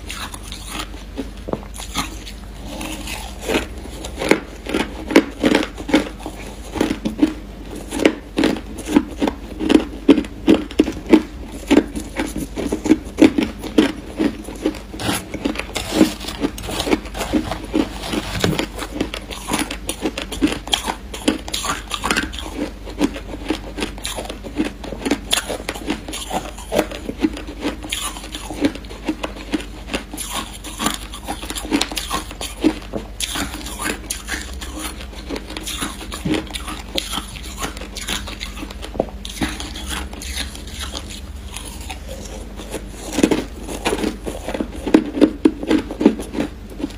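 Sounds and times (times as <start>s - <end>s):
ice crunching while chewed: 0.0s - 46.9s.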